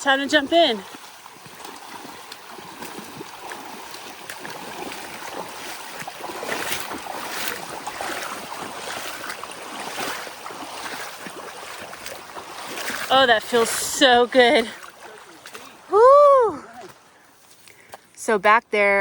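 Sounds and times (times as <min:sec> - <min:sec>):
creek water rushing: 0:00.0 - 0:18.3
splashing of wading footsteps: 0:00.0 - 0:18.3.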